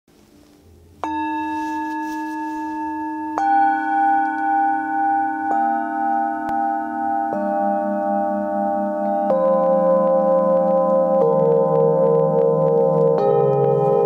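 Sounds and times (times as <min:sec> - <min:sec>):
metal singing bowls ringing: 0:01.0 - 0:14.0.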